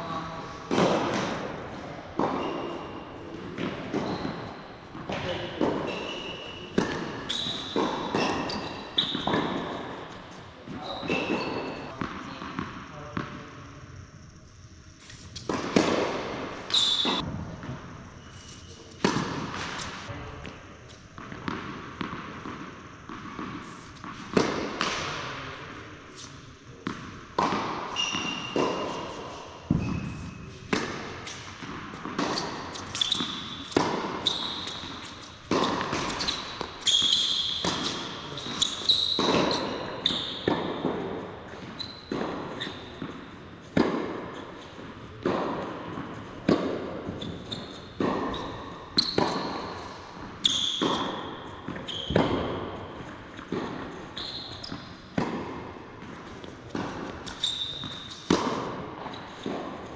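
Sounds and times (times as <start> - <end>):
shoes squeaking on court: 0.7 - 13.7, 14.8 - 59.9.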